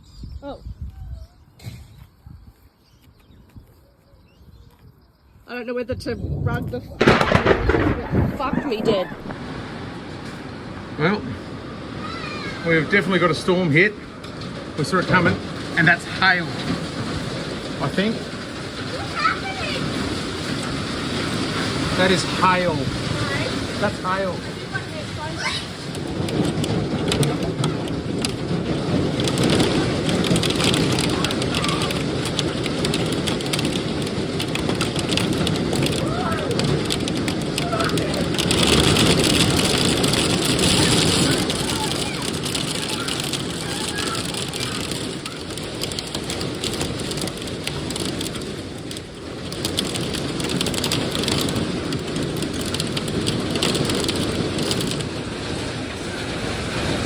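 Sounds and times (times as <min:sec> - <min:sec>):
heavy rain pattering: 0:05.9 - 0:57.0
hailstone impacts: 0:07.0 - 0:13.2, 0:14.1 - 0:57.0.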